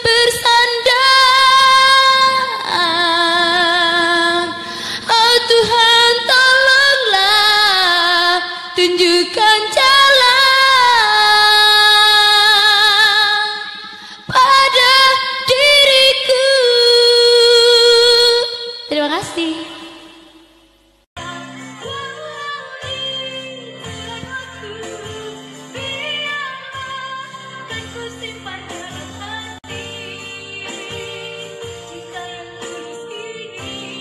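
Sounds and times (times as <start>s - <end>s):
woman singing a cappella: 0.0s - 20.3s, 21.2s - 34.0s.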